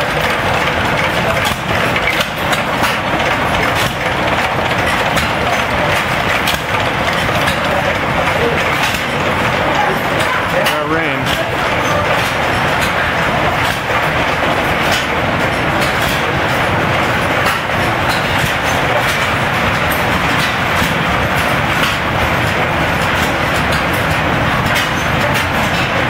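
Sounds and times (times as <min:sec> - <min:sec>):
stationary engines clattering: 0:00.0 - 0:26.0.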